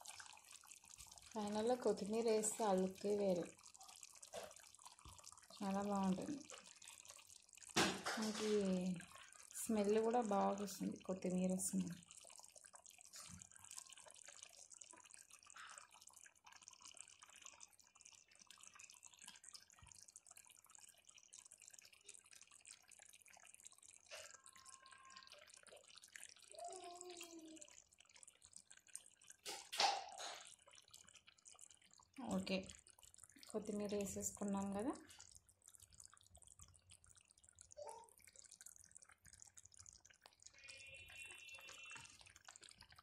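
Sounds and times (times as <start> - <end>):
thick gravy bubbling and popping: 0.0 - 43.0.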